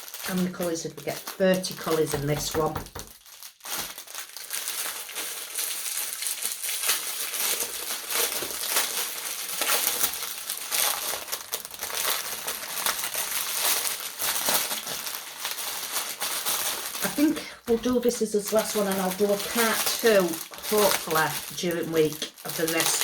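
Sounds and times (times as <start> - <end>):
plastic packaging crinkling: 0.0 - 23.0
small clicks and crackles: 0.0 - 23.0.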